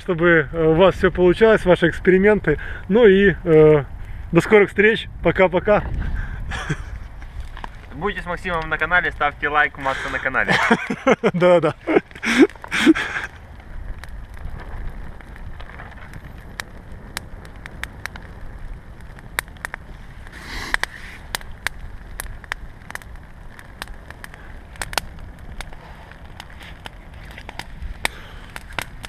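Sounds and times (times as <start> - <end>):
campfire crackling: 0.0 - 29.0
fire pops and snaps: 0.0 - 29.0
low fire rumble: 0.0 - 29.0.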